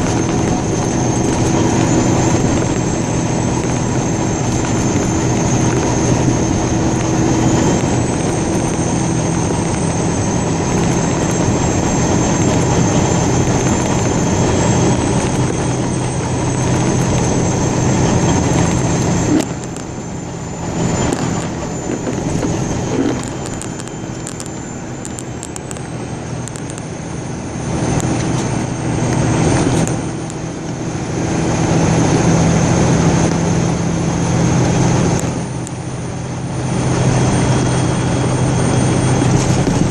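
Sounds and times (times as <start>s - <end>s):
road and wind noise: 0.0s - 39.9s
vehicle engine hum: 0.0s - 39.9s.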